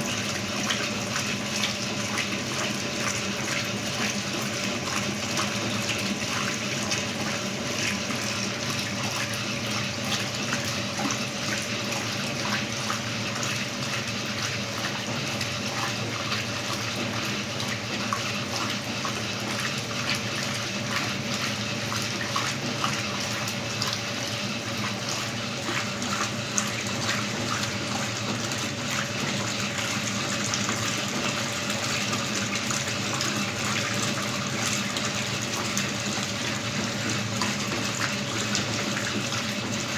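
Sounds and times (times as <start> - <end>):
water filling washing machine tub: 0.0 - 39.9.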